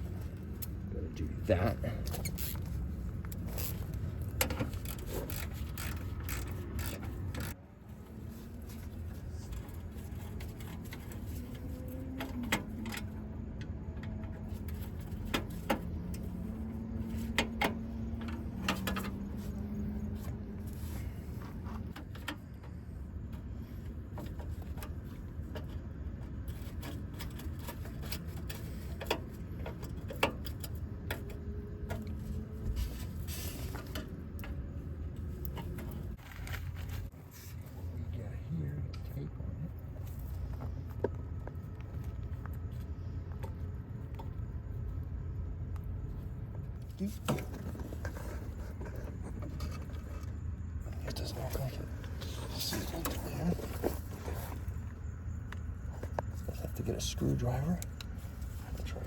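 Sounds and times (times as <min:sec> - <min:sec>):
low background hum: 0:00.0 - 0:59.0.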